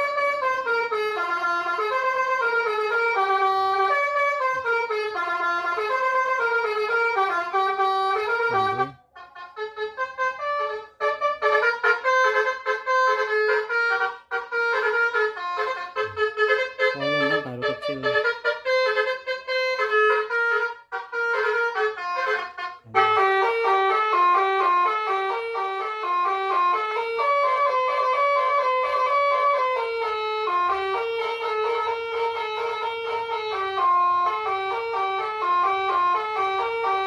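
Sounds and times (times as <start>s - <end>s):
electronic melody horn playing tunes: 0.0s - 37.0s.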